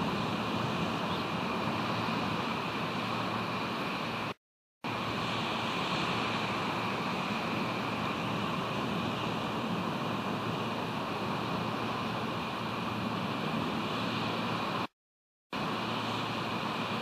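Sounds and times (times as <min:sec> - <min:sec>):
ocean surf: 0:00.0 - 0:14.9, 0:15.6 - 0:17.0
wind: 0:00.0 - 0:17.0.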